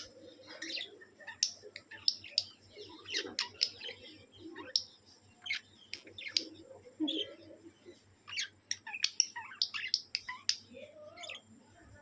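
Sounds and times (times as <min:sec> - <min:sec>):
small bird chirping: 0:00.0 - 0:11.8.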